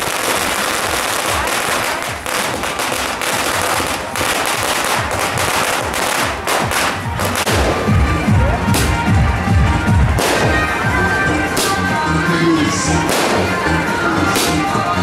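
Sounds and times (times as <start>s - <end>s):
firecrackers crackling: 0.0s - 15.0s
loud music with heavy drum beat: 0.0s - 15.0s.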